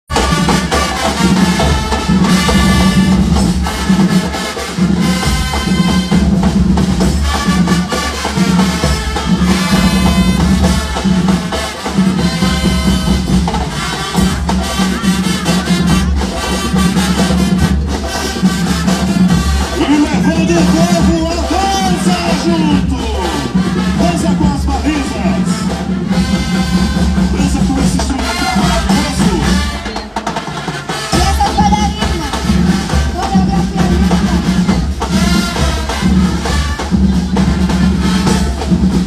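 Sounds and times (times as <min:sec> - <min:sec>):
drums steady beat: 0:00.0 - 0:39.0
marching band brass melody: 0:00.0 - 0:39.0.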